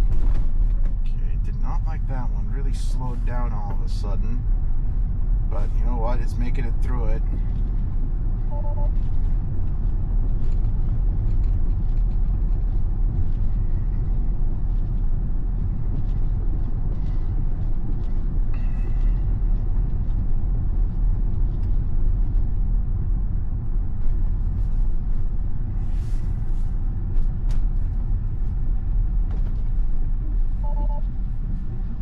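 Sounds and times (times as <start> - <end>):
tyre and road noise: 0.0 - 32.0.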